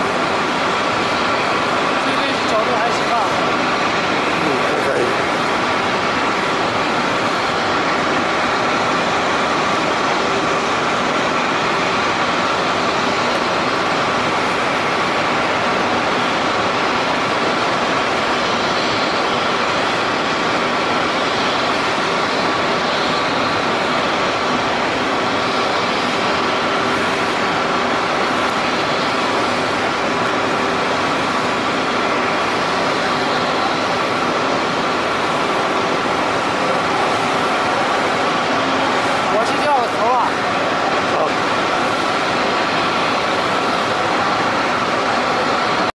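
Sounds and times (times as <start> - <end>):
loud machinery drone: 0.0 - 45.9.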